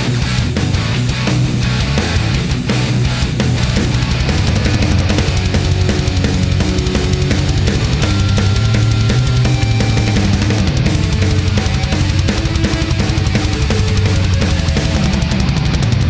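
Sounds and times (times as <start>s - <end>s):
distorted guitar: 0.0s - 16.0s
fast drum beat: 0.0s - 16.0s
heavy rock music: 0.0s - 16.0s.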